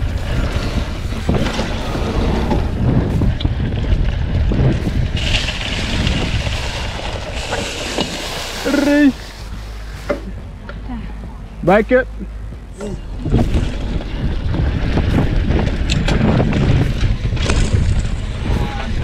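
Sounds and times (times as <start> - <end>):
bike rattling: 0.0 - 19.0
bike tyres rumbling on dirt: 0.0 - 19.0
wind buffeting microphone: 0.0 - 19.0.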